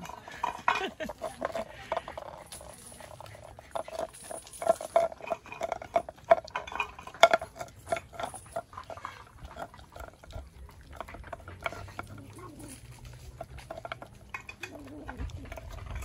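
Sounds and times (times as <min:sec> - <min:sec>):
dog licking and chewing: 0:00.0 - 0:16.0
metal bowl clinking: 0:00.0 - 0:16.0.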